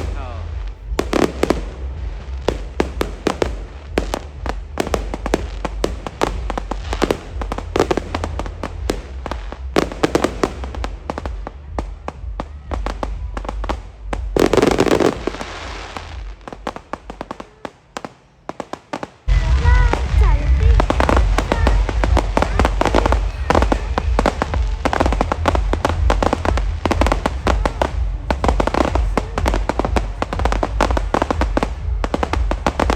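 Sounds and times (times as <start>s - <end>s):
fireworks cracking and popping: 0.0s - 32.9s.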